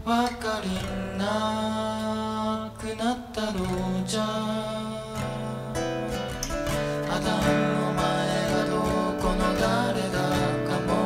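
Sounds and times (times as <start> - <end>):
acoustic guitar: 0.0 - 11.0
man singing long notes: 0.0 - 11.0.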